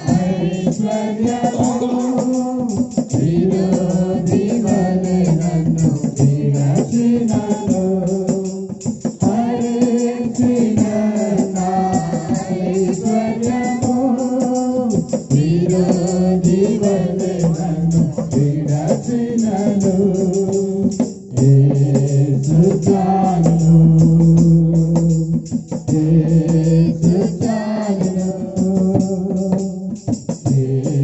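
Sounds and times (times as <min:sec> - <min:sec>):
group singing worship song: 0:00.0 - 0:31.0
shaken percussion beat: 0:00.0 - 0:31.0.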